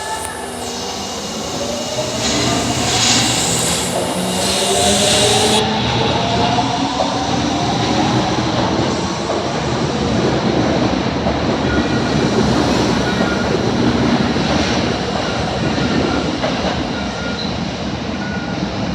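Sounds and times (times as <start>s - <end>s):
subway train wheels rumbling: 0.0s - 18.9s.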